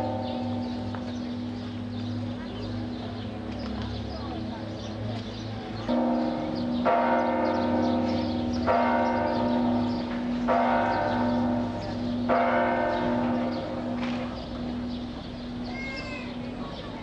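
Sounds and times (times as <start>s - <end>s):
church bell tolling: 0.0s - 3.4s, 5.6s - 17.0s.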